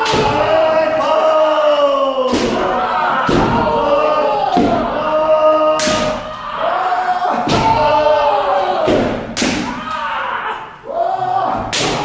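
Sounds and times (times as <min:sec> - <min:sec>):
people shouting: 0:00.0 - 0:12.0.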